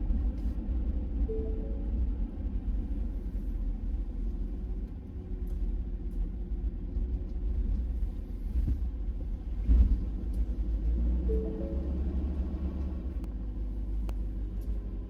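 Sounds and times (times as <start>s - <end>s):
vehicle driving rumble: 0.0s - 15.0s.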